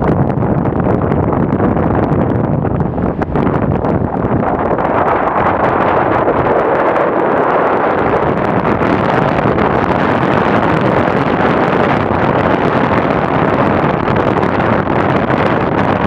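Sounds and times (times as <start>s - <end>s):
surf roaring on shore: 0.0s - 16.0s
wind blowing on microphone: 0.0s - 16.0s.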